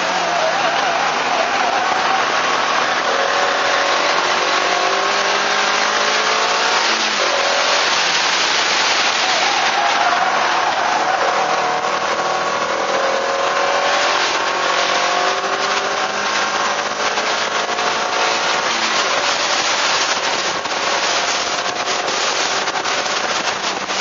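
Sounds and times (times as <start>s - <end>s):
car engine running: 0.0s - 24.0s
wind and road rush: 0.0s - 24.0s.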